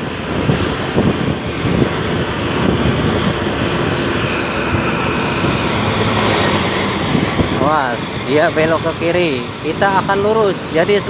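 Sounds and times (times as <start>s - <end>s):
bus diesel engine droning: 0.0s - 11.0s
road and traffic noise: 0.0s - 11.0s.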